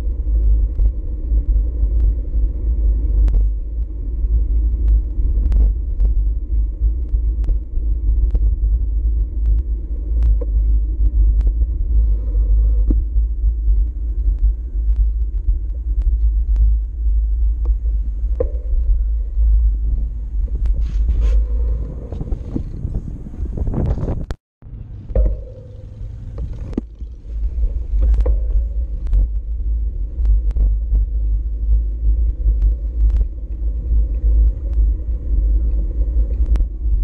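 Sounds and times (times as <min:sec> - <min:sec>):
bike clicks and rattles: 0:00.0 - 0:24.3, 0:25.0 - 0:37.0
road vibration rumble: 0:00.0 - 0:37.0
wind buffeting: 0:00.0 - 0:37.0.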